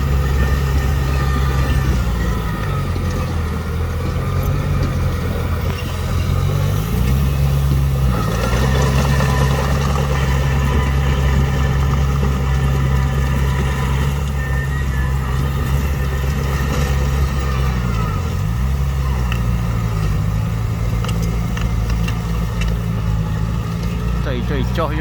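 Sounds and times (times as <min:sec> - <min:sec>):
heavy diesel engine under load: 0:00.0 - 0:25.0.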